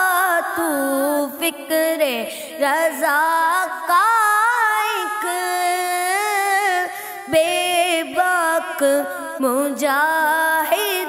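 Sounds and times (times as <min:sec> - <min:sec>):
boy singing unaccompanied: 0:00.0 - 0:11.0.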